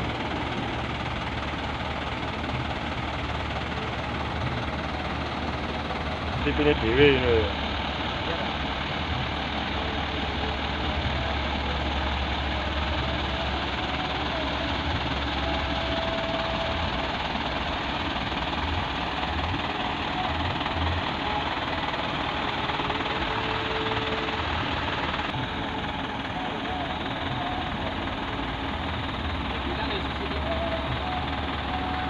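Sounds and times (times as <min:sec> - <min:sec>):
truck engine humming: 0:00.0 - 0:32.0.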